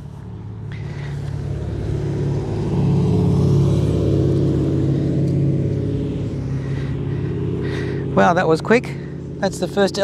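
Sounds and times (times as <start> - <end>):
passing vehicle engine hum: 0.0 - 10.0.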